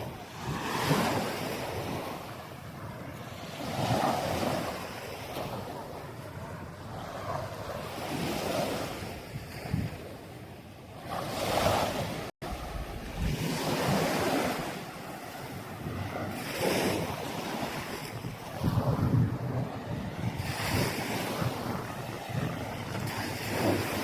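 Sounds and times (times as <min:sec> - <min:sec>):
waves washing on beach: 0:00.0 - 0:24.0
wind buffeting microphone: 0:00.0 - 0:24.0.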